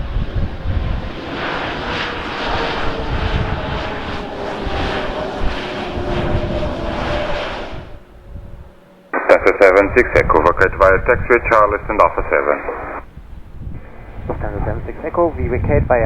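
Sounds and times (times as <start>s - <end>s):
wind buffeting microphone: 0.0s - 8.9s, 9.8s - 16.0s
jet engines winding down: 0.0s - 15.8s.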